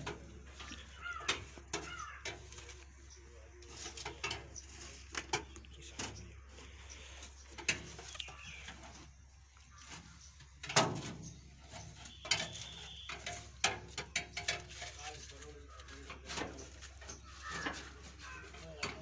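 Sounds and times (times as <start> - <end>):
handling clicks and knocks: 0.0 - 6.4, 9.7 - 19.0.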